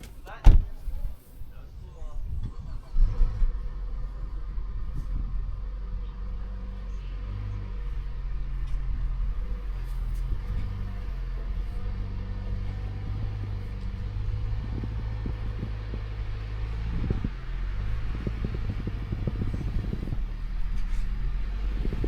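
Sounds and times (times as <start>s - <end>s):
car engine idling: 2.0s - 22.0s.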